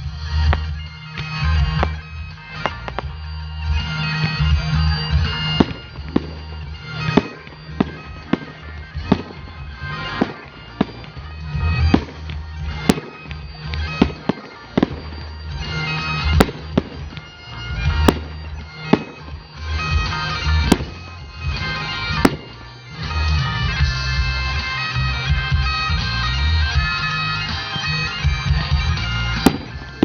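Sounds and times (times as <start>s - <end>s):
bagpipe-like drone music: 0.0s - 30.0s
fireworks bangs and crackles: 0.0s - 30.0s.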